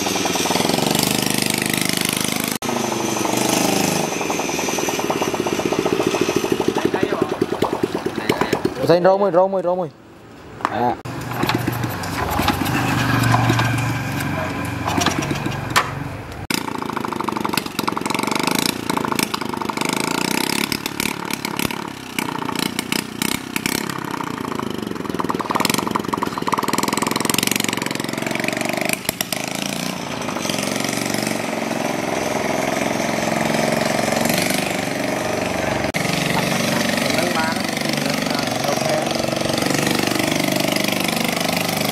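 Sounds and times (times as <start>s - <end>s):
motorcycle engine starting and running: 0.0s - 9.4s, 11.0s - 41.9s.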